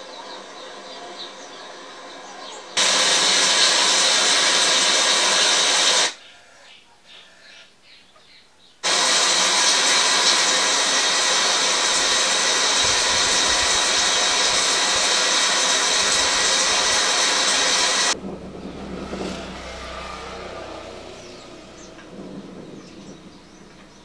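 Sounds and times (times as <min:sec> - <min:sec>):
heavy rain pouring: 0:00.0 - 0:06.2, 0:08.8 - 0:24.0.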